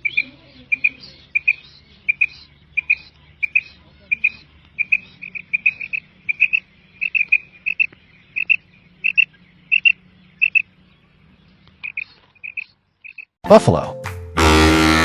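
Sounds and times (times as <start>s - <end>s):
quail chirping: 0.0s - 13.3s.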